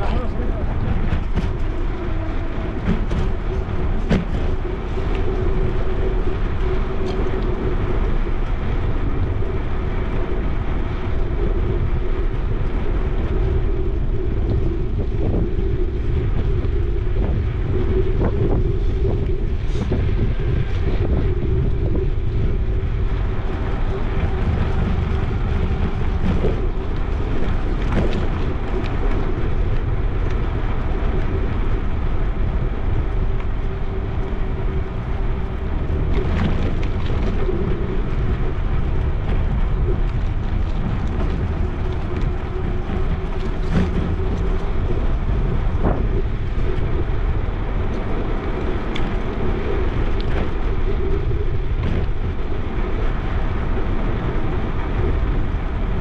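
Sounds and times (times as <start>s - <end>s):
bicycle tyres rolling on pavement: 0.0s - 56.0s
wind buffeting microphone: 0.0s - 56.0s.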